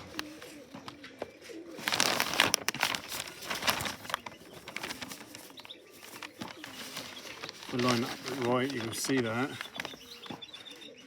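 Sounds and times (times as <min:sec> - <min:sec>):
rustling and scuffling: 0:00.0 - 0:10.9
pigeons cooing: 0:00.0 - 0:11.0.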